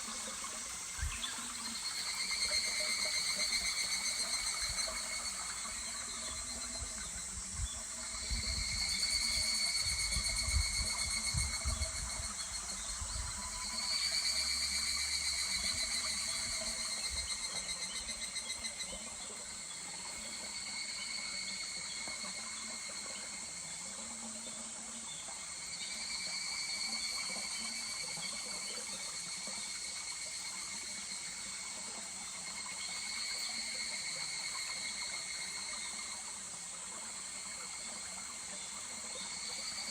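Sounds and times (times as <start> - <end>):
cicadas trilling: 0.0 - 39.9.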